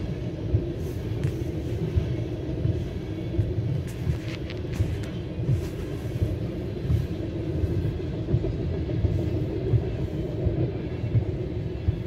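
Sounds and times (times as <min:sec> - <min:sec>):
muffled freight train rumble: 0:00.0 - 0:12.0.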